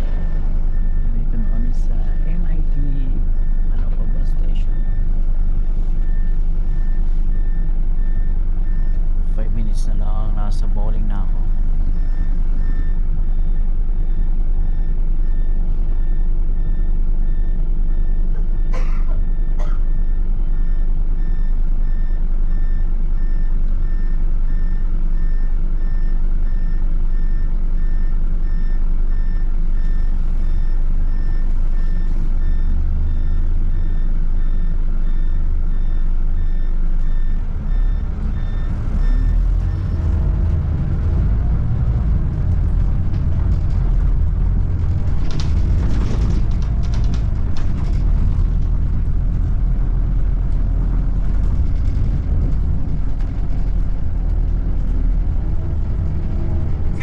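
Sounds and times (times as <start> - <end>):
diesel engine running: 0.0 - 57.0
reversing alarm beeping: 0.0 - 57.0.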